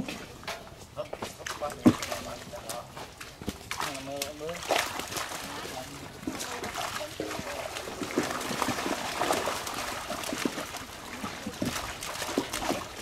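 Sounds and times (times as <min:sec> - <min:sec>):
water splashing and dripping: 0:00.0 - 0:13.0.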